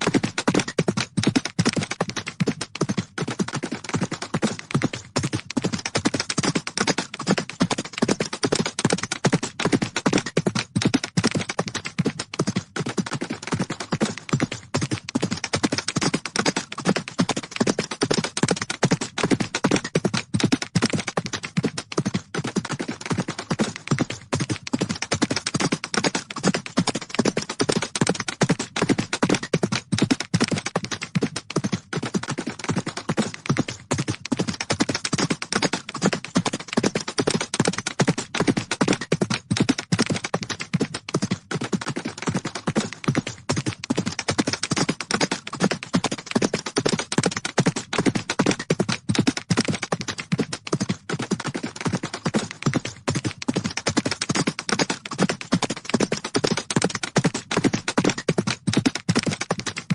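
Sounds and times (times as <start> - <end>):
horses galloping: 0.0 - 59.9.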